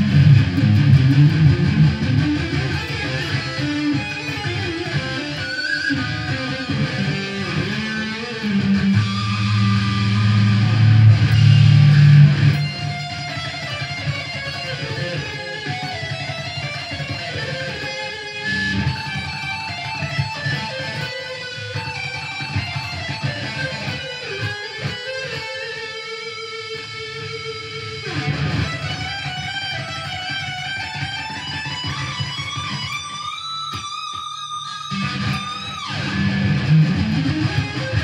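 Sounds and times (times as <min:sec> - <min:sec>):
electric guitar playing: 0:00.0 - 0:38.0.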